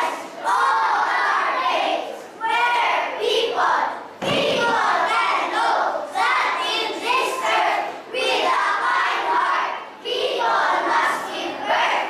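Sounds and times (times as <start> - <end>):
children reciting in unison: 0.0 - 12.0.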